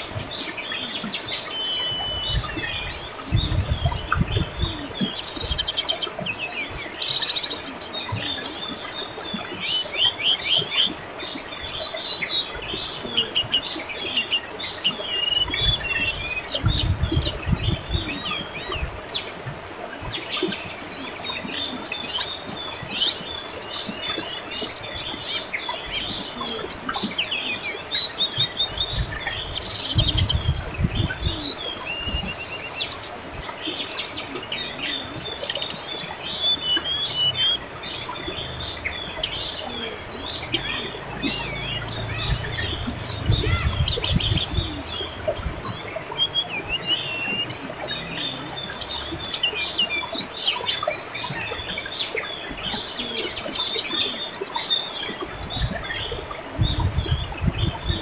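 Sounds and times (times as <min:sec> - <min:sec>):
birds chirping and singing: 0:00.0 - 0:58.0
river babbling: 0:00.0 - 0:58.0.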